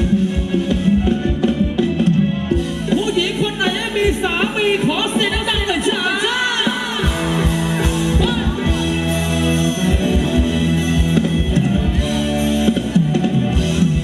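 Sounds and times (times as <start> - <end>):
live dance band playing: 0.0 - 14.0
steady drum beat: 0.0 - 14.0.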